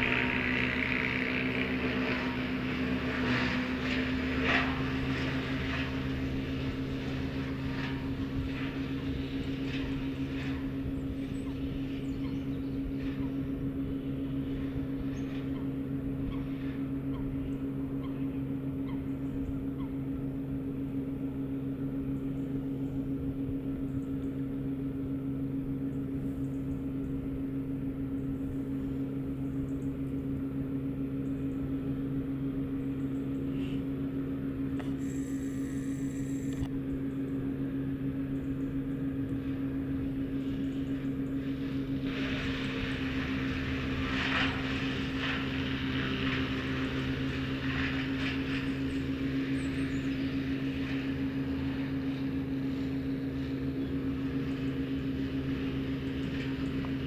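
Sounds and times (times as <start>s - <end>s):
low mechanical drone: 0.0s - 57.0s.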